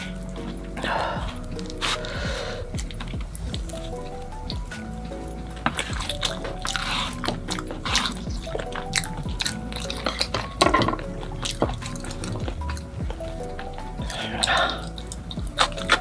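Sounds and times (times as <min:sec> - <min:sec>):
background music with held notes: 0:00.0 - 0:16.0
person chewing: 0:00.0 - 0:16.0.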